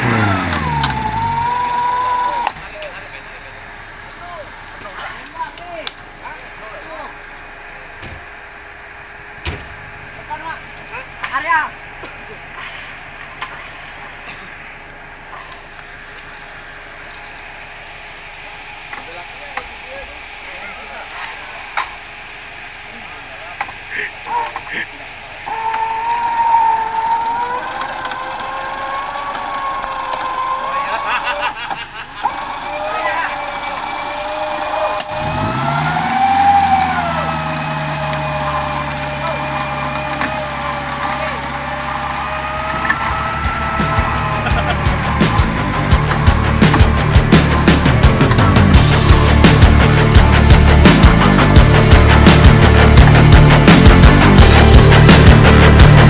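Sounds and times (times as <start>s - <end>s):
electric winch motor hum: 0.0s - 19.0s, 23.8s - 56.0s
high whine: 0.0s - 56.0s.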